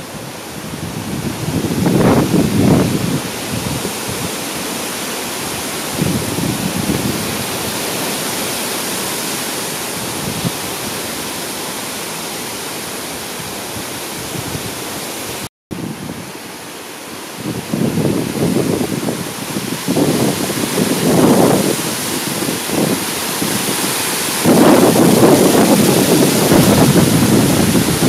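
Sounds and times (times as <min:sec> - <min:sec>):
forest fire roaring: 0:00.0 - 0:14.9, 0:17.3 - 0:28.0.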